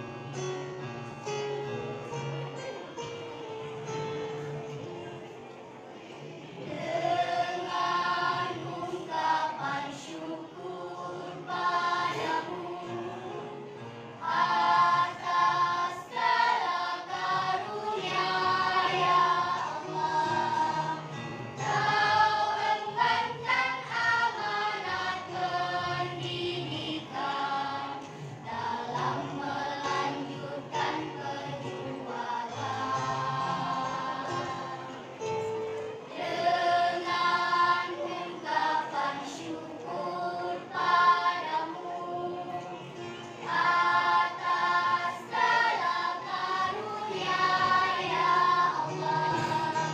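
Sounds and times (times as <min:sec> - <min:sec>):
choir singing: 0:01.7 - 0:49.9.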